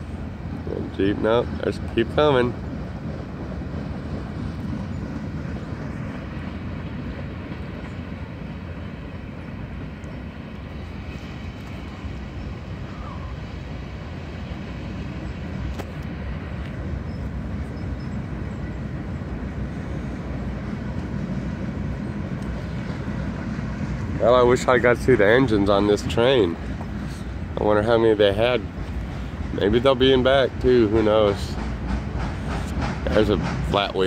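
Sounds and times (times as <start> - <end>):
freight train cars rolling on rails: 0.0 - 34.0.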